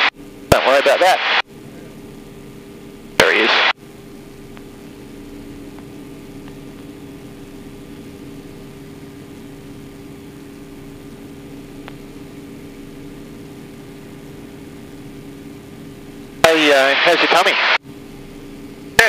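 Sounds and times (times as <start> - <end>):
aircraft engine droning in cockpit: 0.0 - 19.0.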